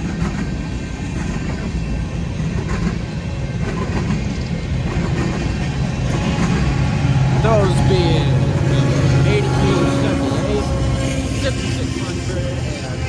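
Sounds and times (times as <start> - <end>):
diesel engines rumbling: 0.0 - 13.0
freight train passing: 0.0 - 13.0.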